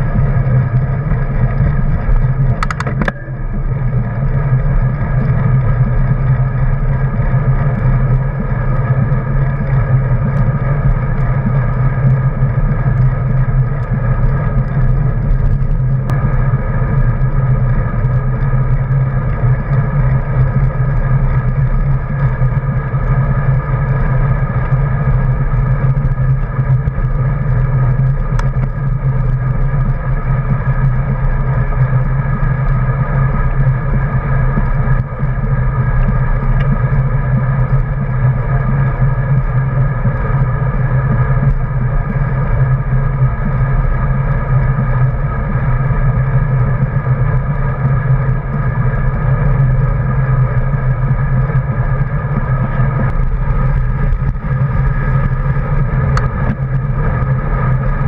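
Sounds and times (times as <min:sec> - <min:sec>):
vehicle engine humming steadily: 0:00.0 - 0:58.0.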